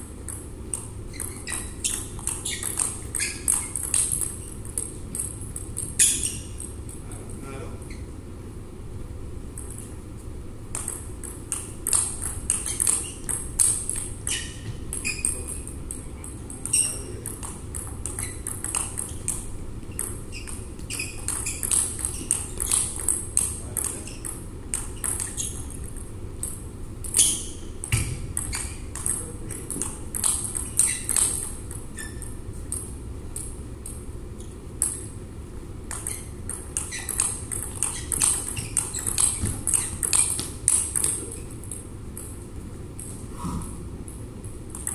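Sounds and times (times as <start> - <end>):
ball bouncing on table: 0.2 - 6.8, 10.7 - 35.1, 35.9 - 42.3
ball clicking off bats: 0.2 - 7.0, 9.5 - 9.9, 10.7 - 35.2, 35.8 - 43.2, 44.1 - 44.9.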